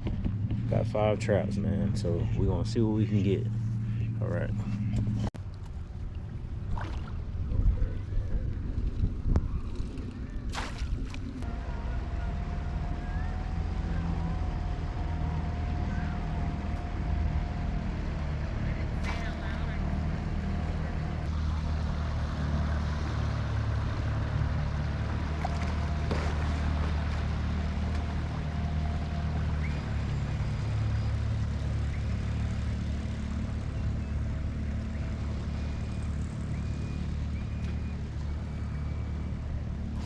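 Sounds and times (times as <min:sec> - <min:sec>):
motorboat engine droning: 0:00.0 - 0:40.0.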